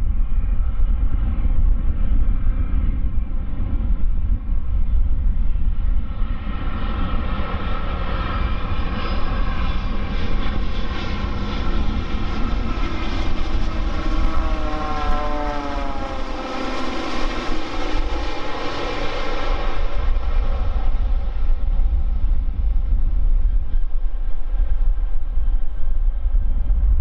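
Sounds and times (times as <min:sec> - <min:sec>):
jet airliner flying past: 0:00.0 - 0:27.0.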